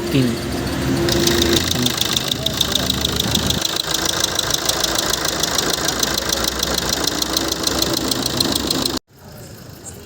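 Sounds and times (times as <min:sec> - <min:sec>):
car engine idling with knocking: 0:00.6 - 0:09.0.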